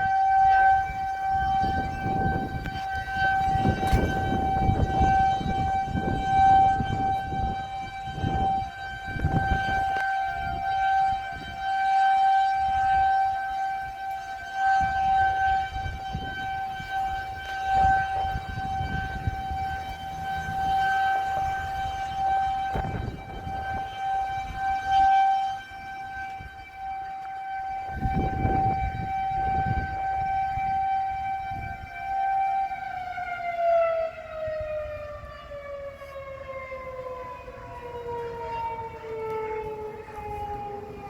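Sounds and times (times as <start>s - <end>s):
warning siren wailing: 0.0s - 41.0s.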